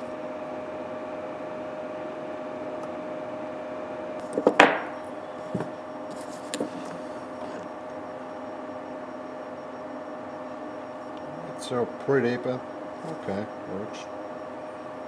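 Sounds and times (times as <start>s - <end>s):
furnace hum: 0.0s - 15.0s.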